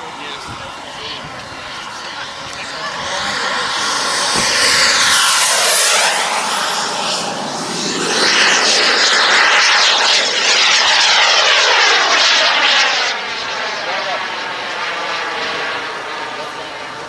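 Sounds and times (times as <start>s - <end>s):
model jet turbine rush and whine: 0.0s - 17.0s.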